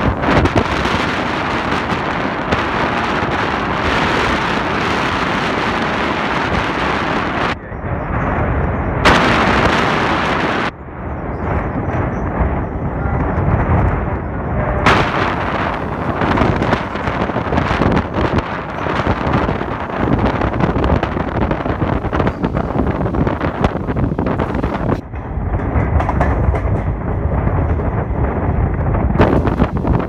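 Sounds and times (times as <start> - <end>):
passenger train running: 0.0 - 30.0
wind rushing over microphone: 0.0 - 30.0.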